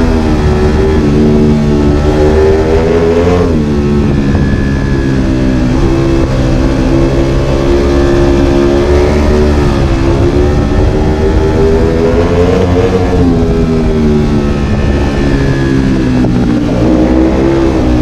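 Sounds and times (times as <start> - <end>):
motorcycle engine running hard: 0.0 - 18.0
wind rush: 0.0 - 18.0.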